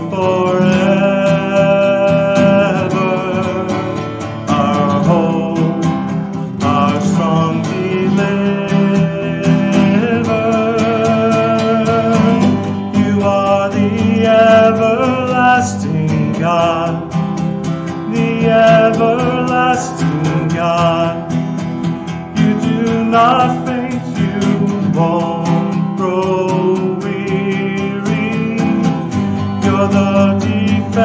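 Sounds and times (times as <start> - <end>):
person singing: 0.0 - 31.0
strummed acoustic guitar: 0.0 - 31.0.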